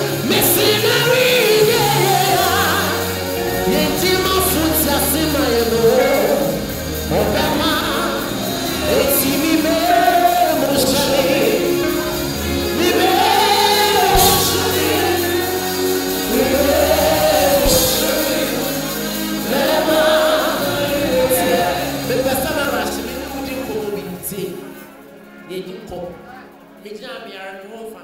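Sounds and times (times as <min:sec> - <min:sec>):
man singing into a microphone: 0:00.0 - 0:24.1
gospel band accompaniment: 0:00.0 - 0:26.8.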